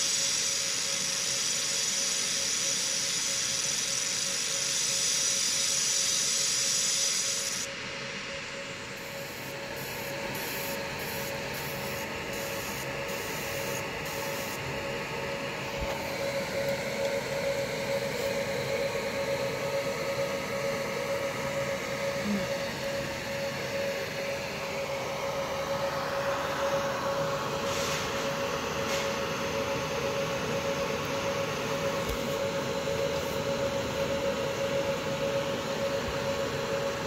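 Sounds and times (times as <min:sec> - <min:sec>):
laser machine high hiss: 0:00.0 - 0:35.5
steady mechanical hum: 0:00.0 - 0:37.0.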